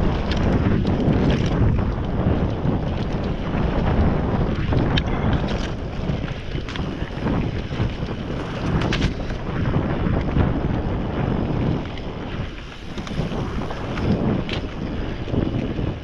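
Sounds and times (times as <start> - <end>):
bike clicks and rattles: 0.0 - 16.0
tyres rumbling over soil: 0.0 - 16.0
wind on microphone: 0.0 - 16.0.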